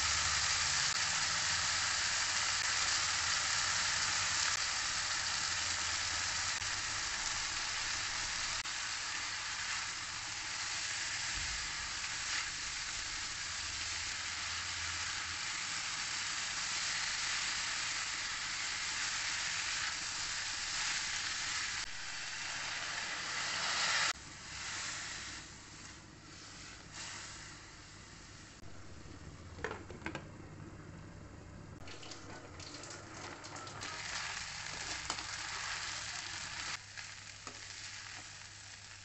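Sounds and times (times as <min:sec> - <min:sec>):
food sizzling in a pan: 0:00.0 - 0:28.7, 0:31.8 - 0:39.0.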